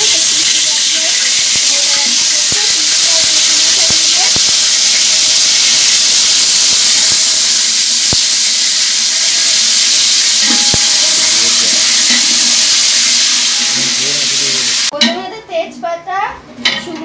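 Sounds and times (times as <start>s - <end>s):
stovetop cooking hiss: 0.0s - 14.9s.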